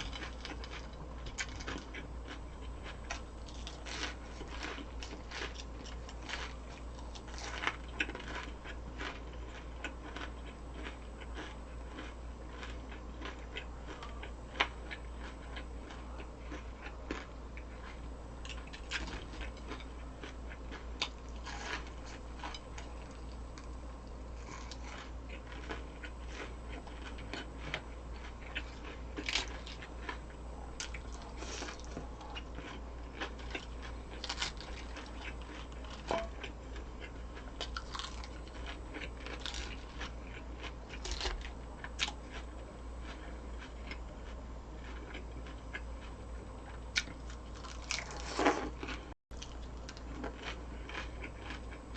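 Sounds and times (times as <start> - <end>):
crunching fried food: 0.0 - 51.9
steady low hum: 0.0 - 51.9.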